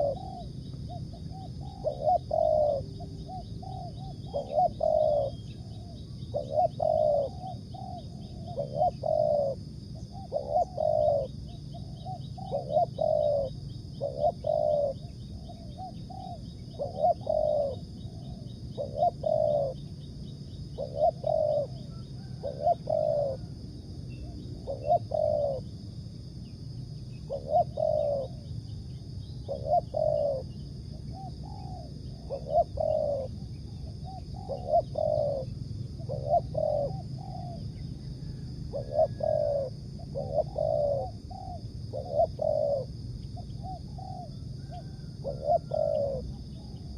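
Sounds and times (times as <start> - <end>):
dove cooing: 0.0 - 26.0, 27.1 - 46.9.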